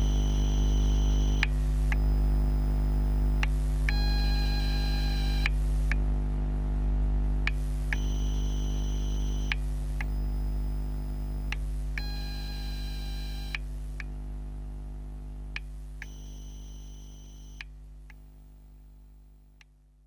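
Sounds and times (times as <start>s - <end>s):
battery charger electrical hum: 0.0s - 19.7s.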